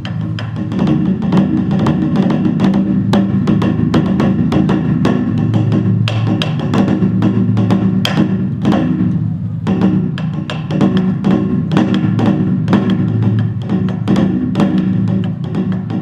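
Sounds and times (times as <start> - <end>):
rapid drum strokes: 0.0 - 16.0.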